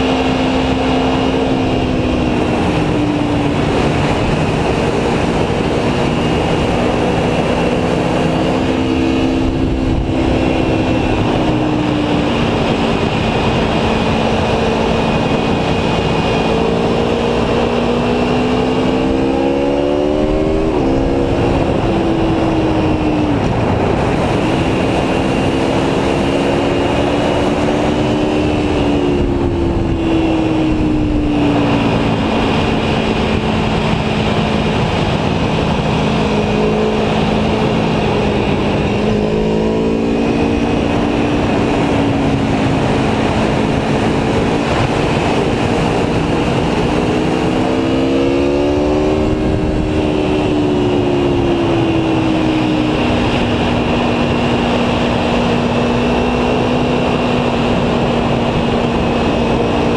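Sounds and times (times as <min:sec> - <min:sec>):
heavy wind noise: 0:00.0 - 0:59.9
motorcycle engine revving: 0:00.0 - 0:59.9.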